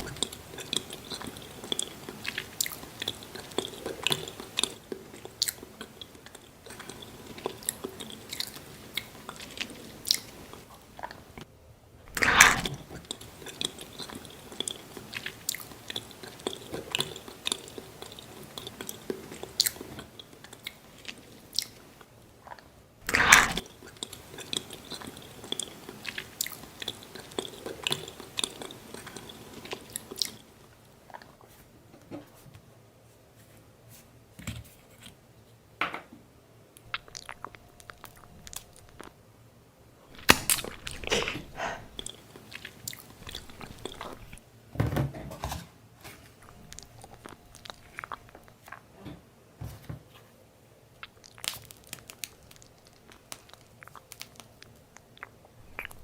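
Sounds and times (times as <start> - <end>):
crunchy chewing sounds: 0.0 - 11.5, 12.1 - 31.5, 36.8 - 39.2, 40.1 - 44.4, 46.1 - 49.0, 51.0 - 56.0.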